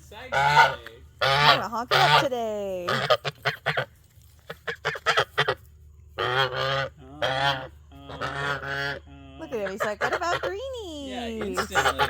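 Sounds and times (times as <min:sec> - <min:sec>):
geese honking: 0:00.1 - 0:12.0.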